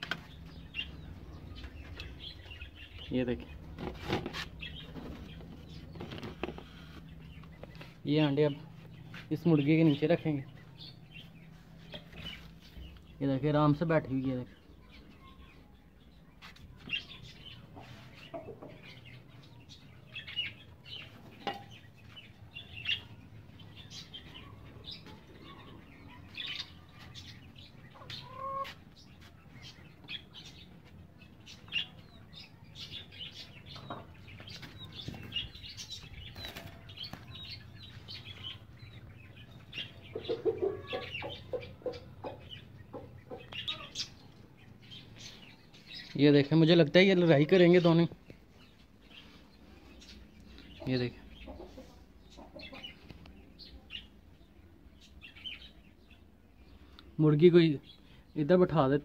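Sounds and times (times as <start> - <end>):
birds chirping: 0.0 - 59.0
low repeated bird calls: 0.0 - 59.0.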